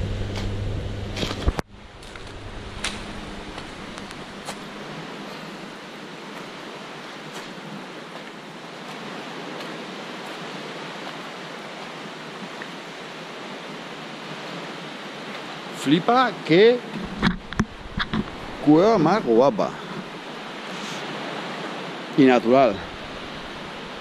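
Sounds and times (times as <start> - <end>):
sea waves washing on shore: 1.2 - 24.0.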